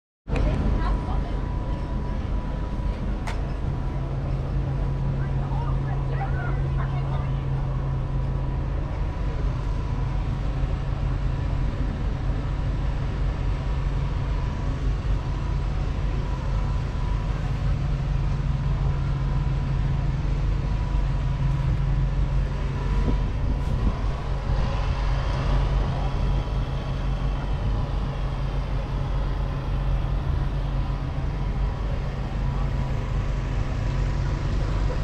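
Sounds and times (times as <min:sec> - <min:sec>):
diesel engine idling: 0:00.3 - 0:35.0.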